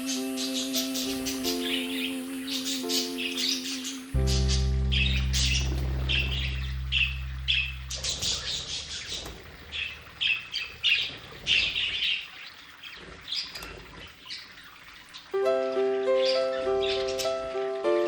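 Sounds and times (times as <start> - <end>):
budgerigars chirping: 0.0 - 15.4, 16.1 - 17.7.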